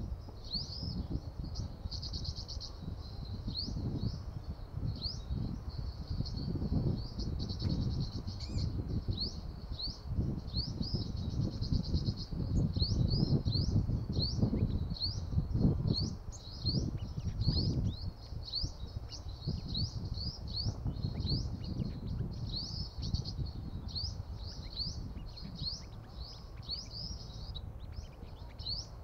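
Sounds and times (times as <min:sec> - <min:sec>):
sunbirds calling: 0:00.0 - 0:29.0
wind rumble on microphone: 0:00.0 - 0:29.0.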